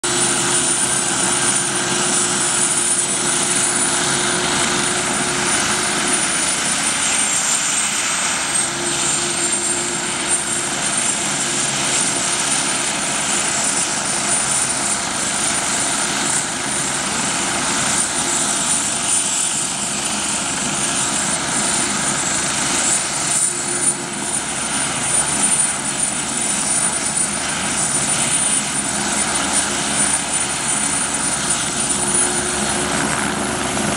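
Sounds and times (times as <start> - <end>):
helicopter rotor and engine roar: 0.0 - 33.9
high turbine whine: 0.0 - 33.9.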